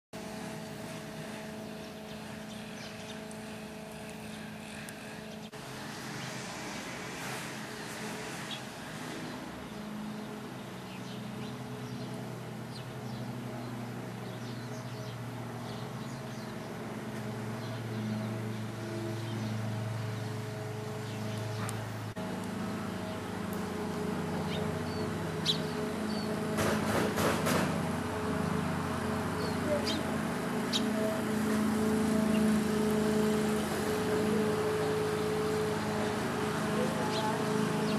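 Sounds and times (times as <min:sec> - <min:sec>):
outdoor background noise: 0:00.1 - 0:37.9
steady motor drone: 0:00.2 - 0:37.9.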